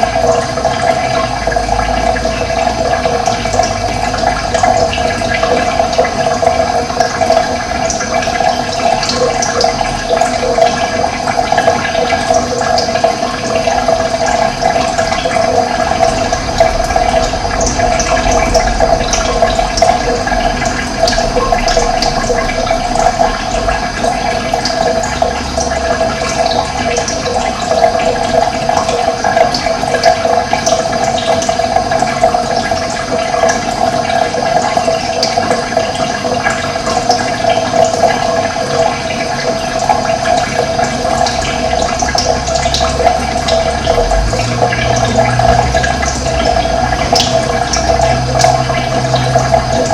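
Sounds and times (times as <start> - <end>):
running water rushing: 0.0 - 49.9.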